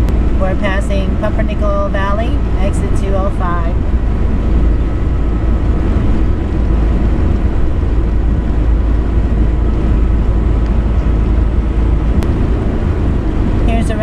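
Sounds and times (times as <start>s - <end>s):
engine and road noise rumble: 0.0s - 14.0s.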